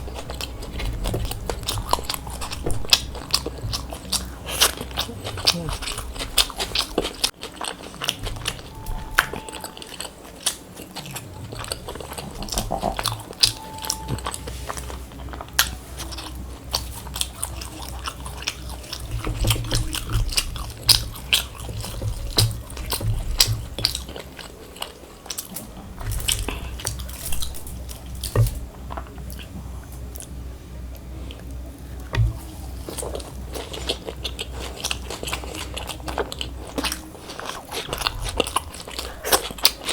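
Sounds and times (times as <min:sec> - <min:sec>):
rhythmic chewing: 0:00.0 - 0:39.9.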